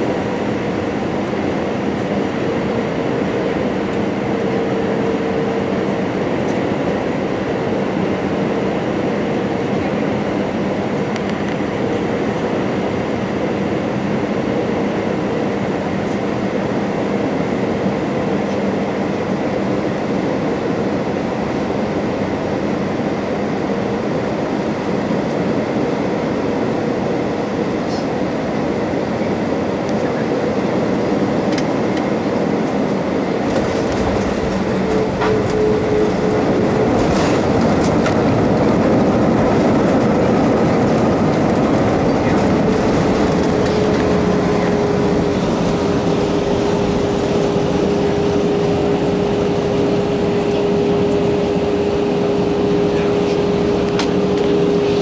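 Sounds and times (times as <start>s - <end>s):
jet engine rush and whine: 0.0s - 55.0s.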